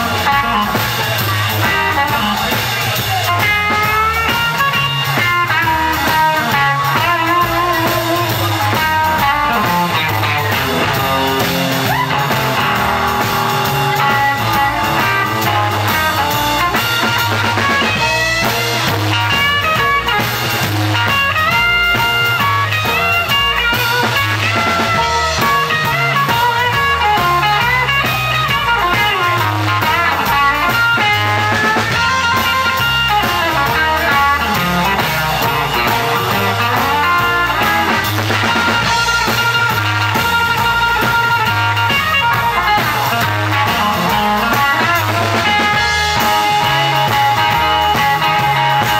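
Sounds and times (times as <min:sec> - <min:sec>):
blues band playing: 0:00.0 - 0:48.9
electric guitar lead line: 0:00.0 - 0:48.9.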